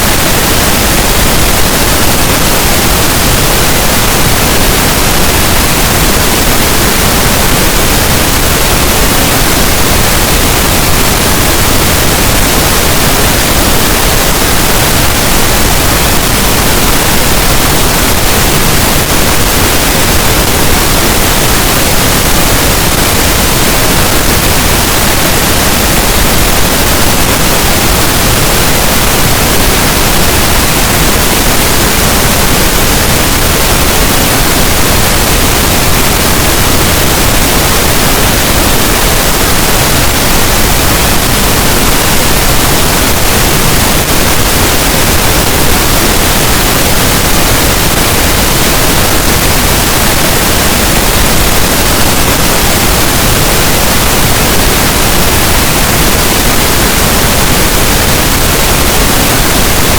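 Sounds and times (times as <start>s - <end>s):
loud pink noise hiss: 0.0s - 59.9s.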